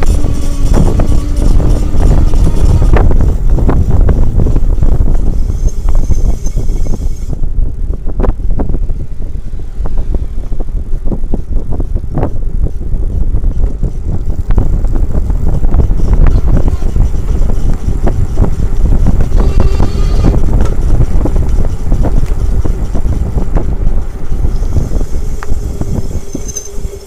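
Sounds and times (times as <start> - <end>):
wind and road noise rumble: 0.0 - 27.0.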